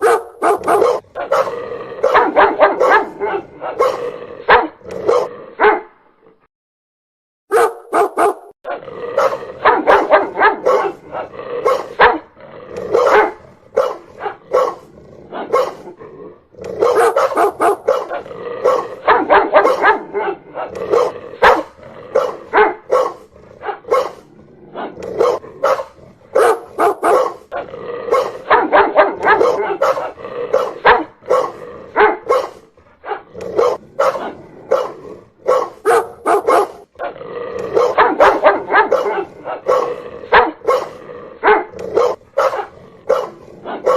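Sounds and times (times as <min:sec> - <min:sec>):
dog barking loudly: 0:00.0 - 0:05.9, 0:07.5 - 0:16.0, 0:16.6 - 0:43.9.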